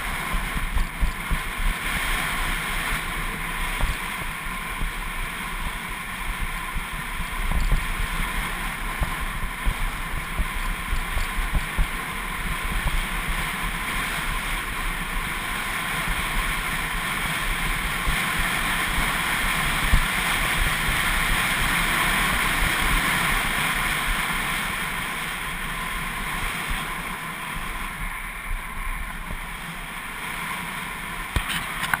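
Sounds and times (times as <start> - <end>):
skis hissing on snow: 0.0 - 31.8
wind buffeting microphone: 0.0 - 32.0.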